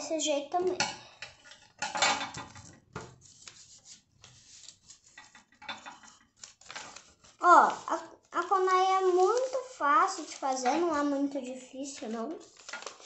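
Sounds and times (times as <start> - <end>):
paper rustling on glass table: 1.3 - 13.0.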